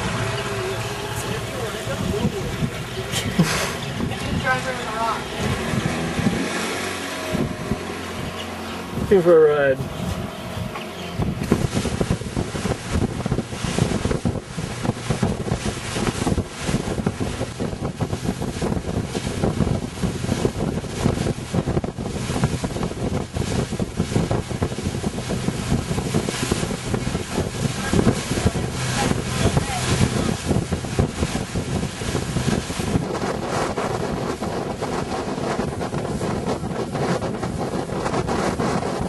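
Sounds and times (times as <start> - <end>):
rush of water: 0.0 - 39.0
wind buffeting microphone: 0.0 - 39.0.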